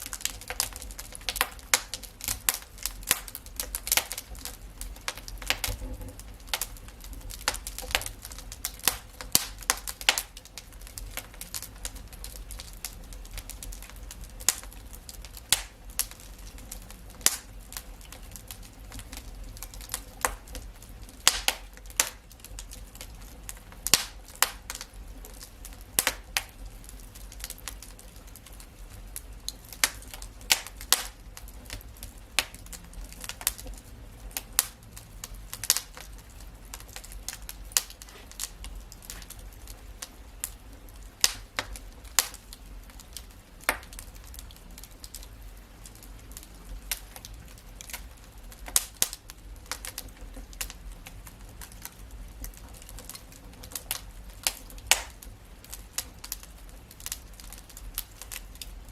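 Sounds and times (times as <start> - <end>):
low rumble of flame: 0.0 - 58.9
wood fire crackling and popping: 0.0 - 58.9.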